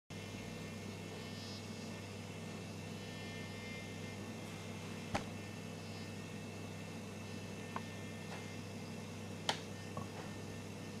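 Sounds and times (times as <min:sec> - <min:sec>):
faint high whines: 0:00.2 - 0:11.0.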